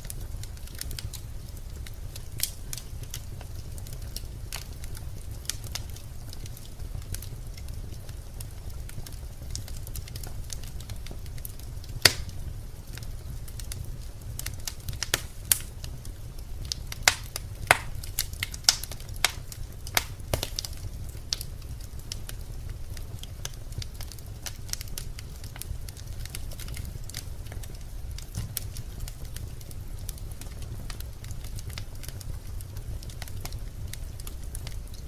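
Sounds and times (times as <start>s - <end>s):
fire crackles and pops: 0.0s - 35.0s
rumble of flame: 0.0s - 35.0s.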